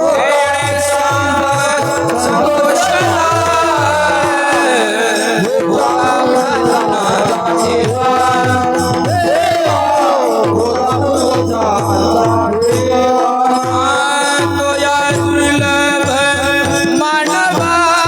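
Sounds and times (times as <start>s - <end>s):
drum strokes: 0.0s - 18.0s
person singing melodic line: 0.0s - 18.0s.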